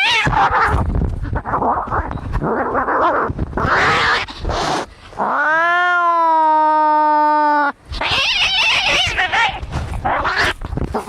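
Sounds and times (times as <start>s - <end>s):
cats yowling and fighting: 0.0s - 11.0s.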